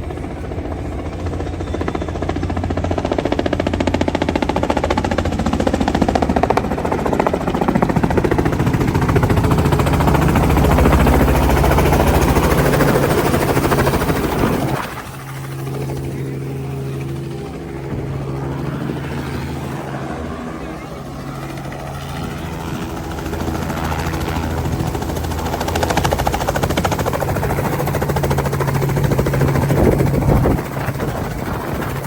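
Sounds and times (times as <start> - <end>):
helicopter rotor beat: 0.0 - 32.0.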